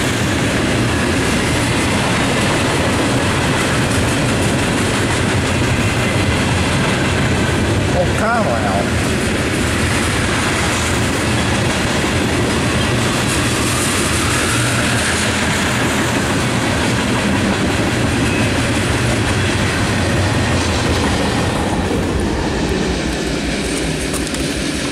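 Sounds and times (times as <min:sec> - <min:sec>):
freight train rumbling and rattling: 0:00.0 - 0:24.9.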